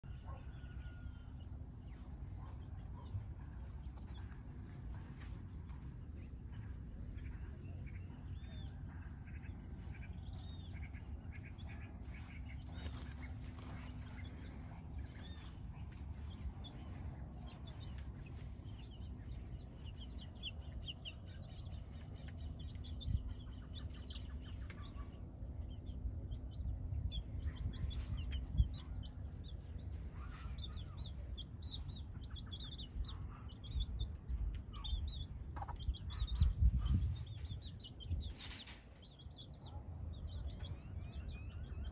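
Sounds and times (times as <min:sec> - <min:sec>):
birds chirping: 0:00.0 - 0:41.9
low rumble: 0:01.4 - 0:41.9
chickens clucking: 0:01.8 - 0:41.9.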